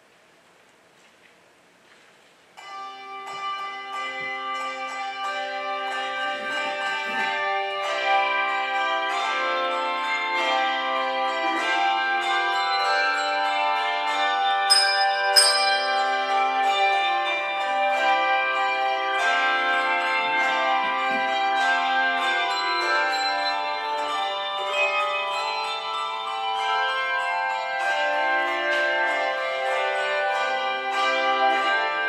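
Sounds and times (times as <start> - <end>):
handbell choir ringing chords: 2.6 - 32.0.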